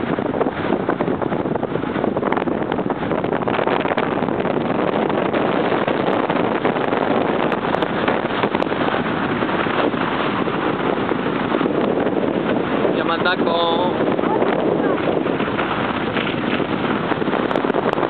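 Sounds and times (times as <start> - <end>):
waves breaking on shore: 0.0 - 18.0
wind on microphone: 0.0 - 18.0.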